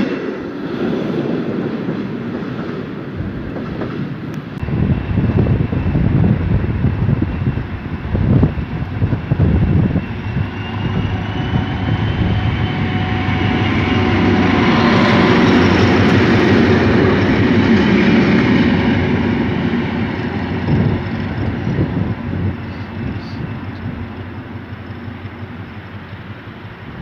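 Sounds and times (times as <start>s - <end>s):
diesel locomotives passing: 0.0s - 27.0s.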